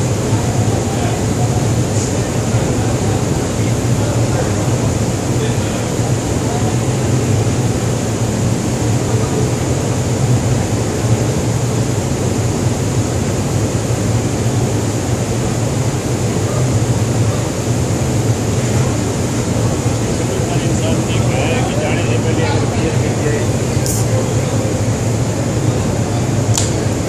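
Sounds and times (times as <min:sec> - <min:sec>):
ship machinery drone: 0:00.0 - 0:27.0
ventilation hiss: 0:00.0 - 0:27.0.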